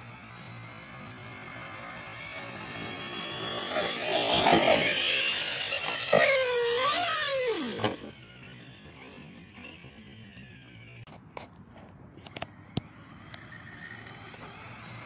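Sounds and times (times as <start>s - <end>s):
electric rc truck motor whining: 0.0s - 15.0s.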